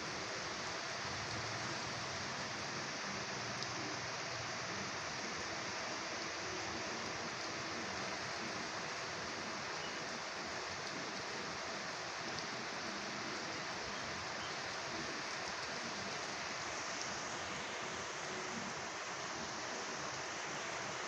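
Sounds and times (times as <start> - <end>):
light rain falling: 0.0 - 21.0.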